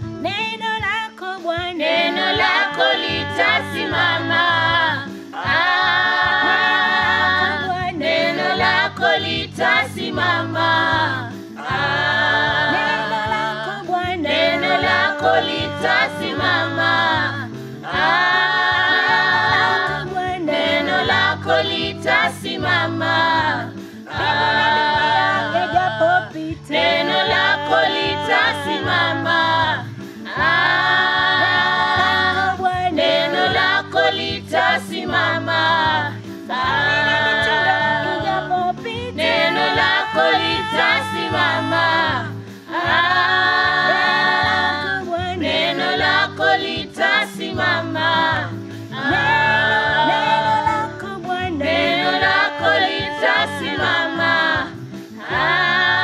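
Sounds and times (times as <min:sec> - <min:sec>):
instrumental backing: 0:00.0 - 0:56.0
choir singing worship song: 0:01.1 - 0:56.0.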